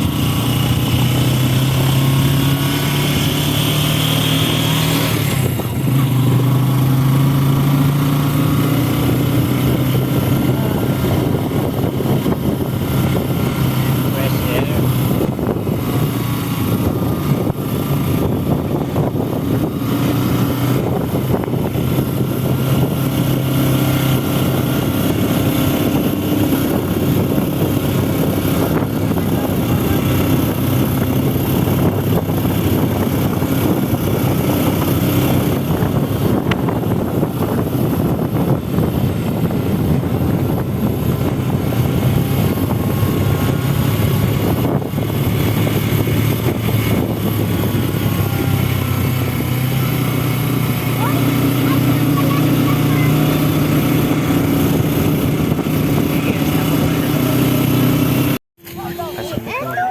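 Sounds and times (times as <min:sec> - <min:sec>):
vehicle engine humming: 0:00.0 - 0:59.9
wind noise on microphone: 0:00.0 - 0:59.9.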